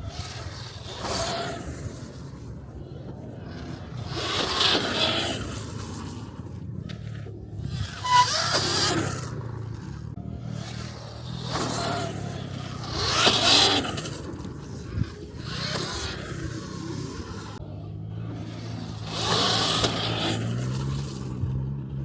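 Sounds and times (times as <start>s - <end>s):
dirt bikes riding past: 0.0s - 22.0s.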